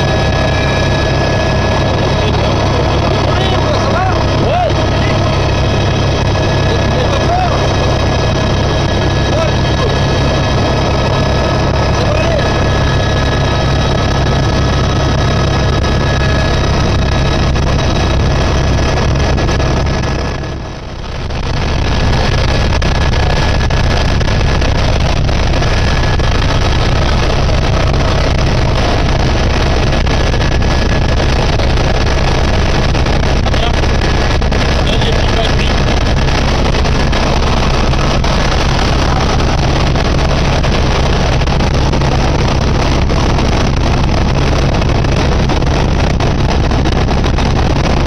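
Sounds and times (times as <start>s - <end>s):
faint whine: 0.0s - 48.0s
helicopter engine and rotor drone: 0.0s - 48.0s.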